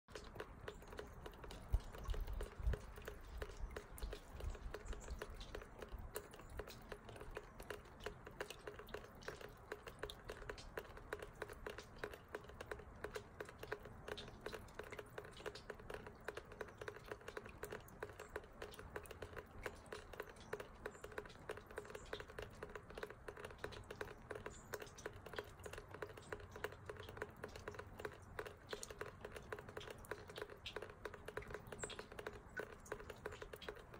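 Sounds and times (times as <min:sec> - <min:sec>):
water dripping down metal chain: 0:00.1 - 0:33.9.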